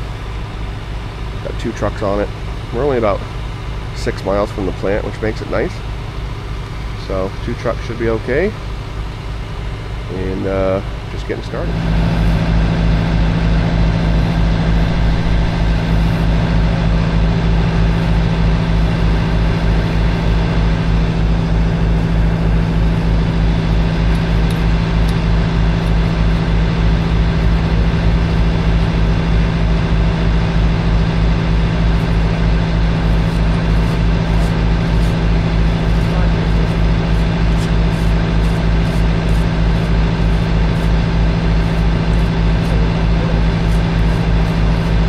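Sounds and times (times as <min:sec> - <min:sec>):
heavy engine running: 0:00.0 - 0:45.0.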